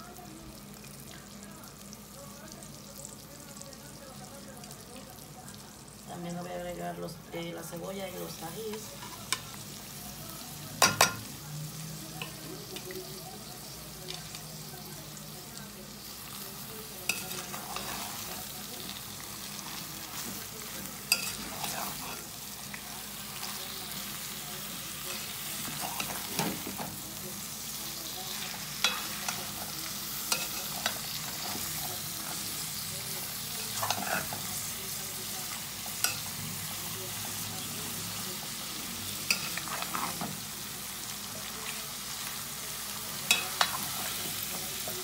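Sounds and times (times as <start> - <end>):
food sizzling in a pot: 0.0 - 45.0.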